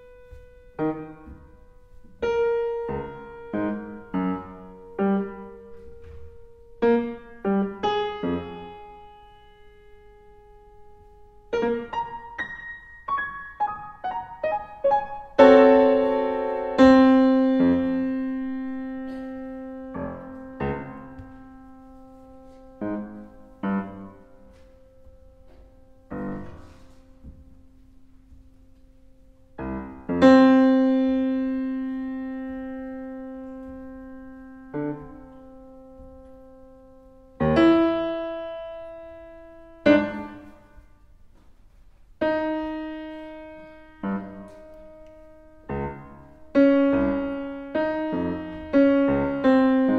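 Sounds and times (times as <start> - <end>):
slow grand piano playing: 0.0 - 49.9.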